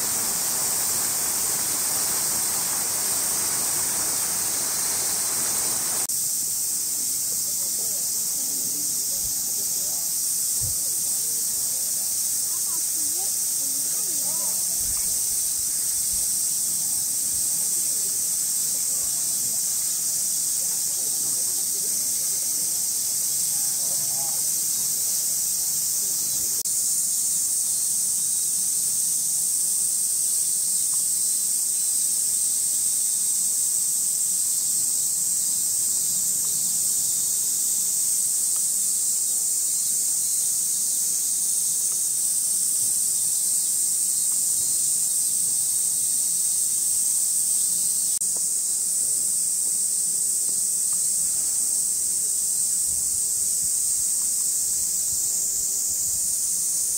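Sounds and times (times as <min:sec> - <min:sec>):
cicadas calling: 0:00.0 - 0:56.9.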